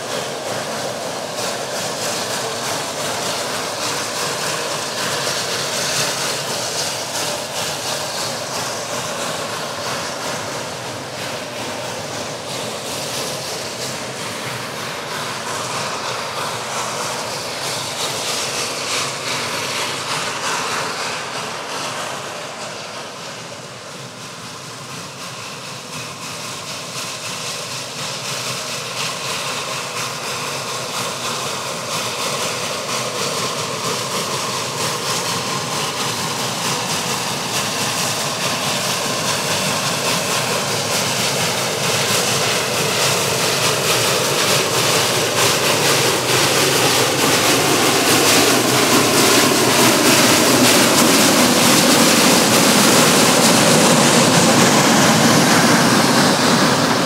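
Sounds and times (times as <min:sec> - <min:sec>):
steam locomotive and train approaching: 0:00.0 - 0:57.0.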